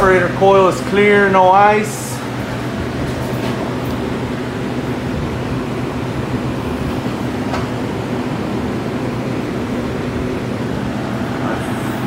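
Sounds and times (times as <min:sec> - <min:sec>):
freezer fans whirring: 0:00.0 - 0:12.0.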